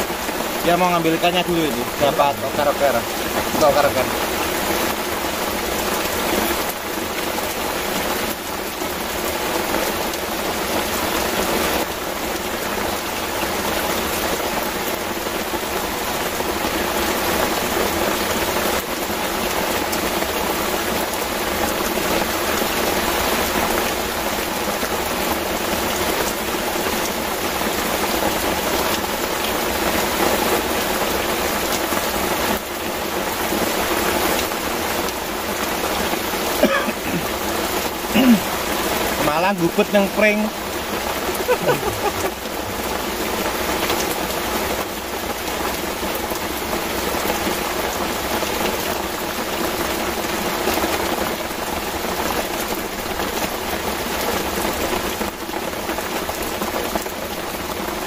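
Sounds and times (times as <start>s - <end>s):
heavy rain on a river: 0.0s - 58.0s.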